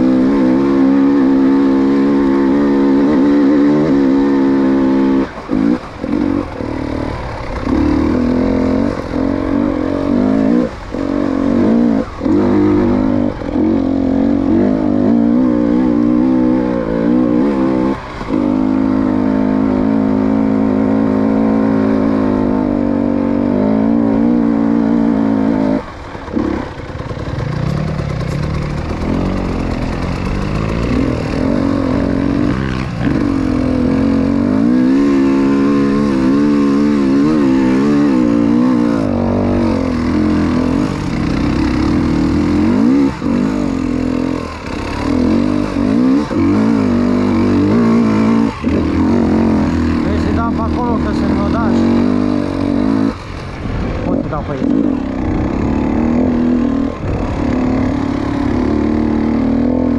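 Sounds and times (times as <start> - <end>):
two-stroke motorcycle engine: 0.0 - 59.9.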